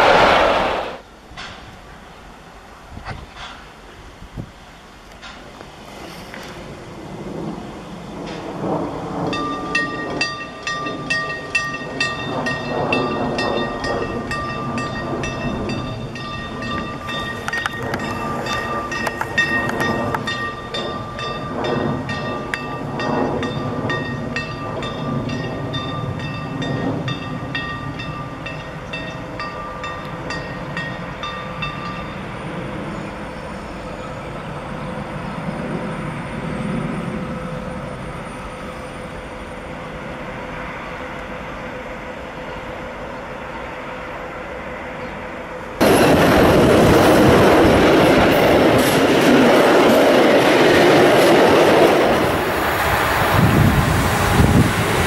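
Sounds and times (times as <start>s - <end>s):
low train rumble: 0.0s - 55.0s.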